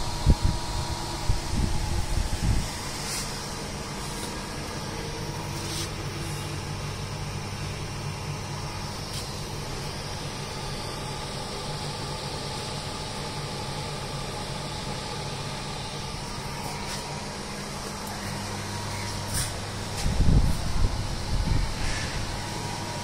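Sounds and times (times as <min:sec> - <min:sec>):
oven fan motor hum: 0:00.0 - 0:23.0.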